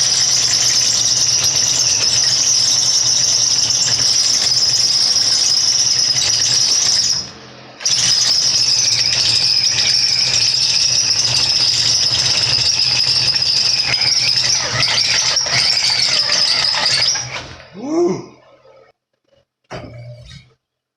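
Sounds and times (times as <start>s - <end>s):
electric drill cutting steel: 0.0s - 17.8s.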